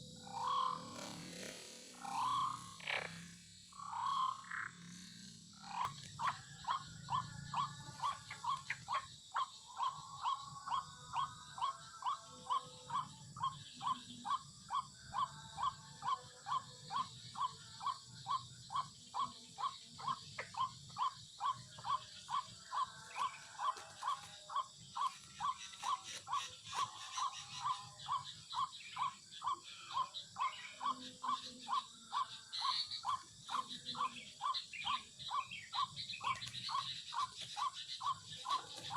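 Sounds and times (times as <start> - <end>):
bird harsh repeated call: 0.0 - 38.9.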